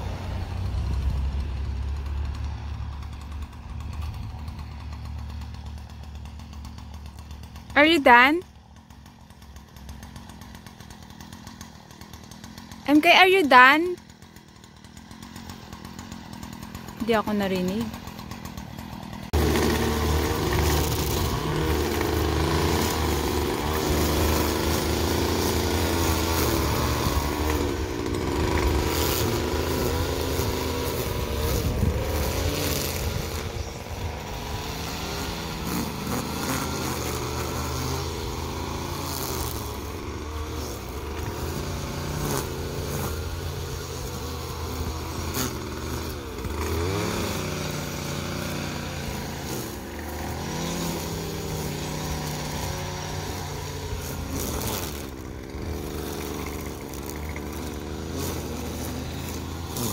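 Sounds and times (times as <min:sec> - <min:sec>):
string trimmer engine revving: 0:00.0 - 0:59.9.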